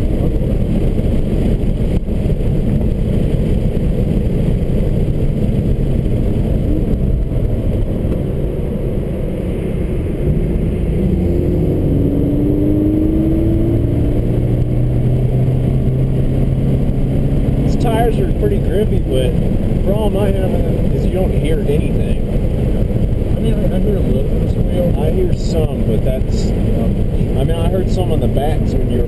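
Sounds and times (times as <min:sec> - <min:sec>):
car engine revving: 0:00.0 - 0:29.0
road noise inside car: 0:00.0 - 0:29.0.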